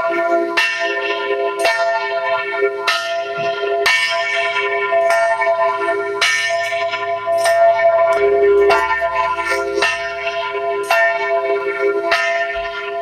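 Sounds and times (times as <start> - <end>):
large church bell ringing: 0.0 - 13.0.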